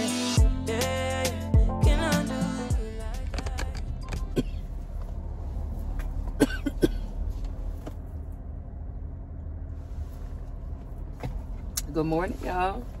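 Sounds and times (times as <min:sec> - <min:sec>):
car interior rumble: 0:01.9 - 0:13.0.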